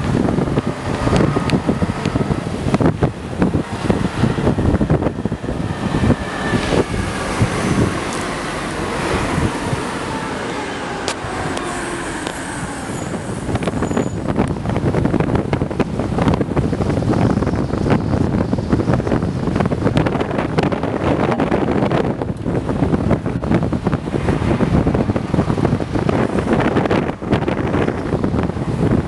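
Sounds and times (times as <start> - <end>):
bus engine and road noise: 0.0 - 29.0
wind buffeting microphone: 0.0 - 29.0.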